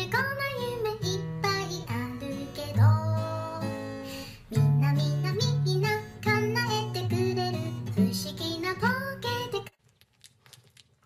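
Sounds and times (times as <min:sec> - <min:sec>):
acoustic guitar: 0:00.0 - 0:09.8.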